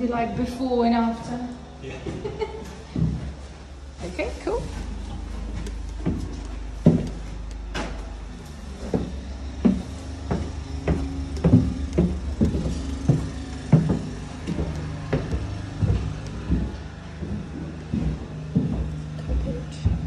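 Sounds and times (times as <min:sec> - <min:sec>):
low steady hum: 0:00.0 - 0:20.0
footsteps on stairs and floor: 0:02.0 - 0:20.0.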